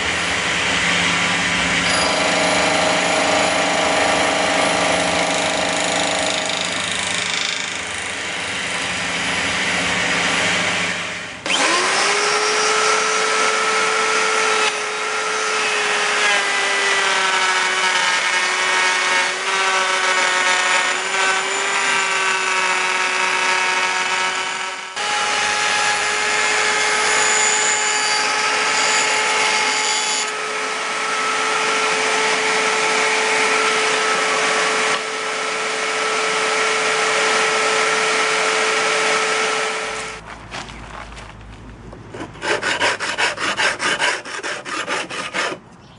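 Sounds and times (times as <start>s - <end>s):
milling machine cutting metal: 0.0s - 10.6s, 11.4s - 40.2s
router high whine: 0.0s - 40.2s.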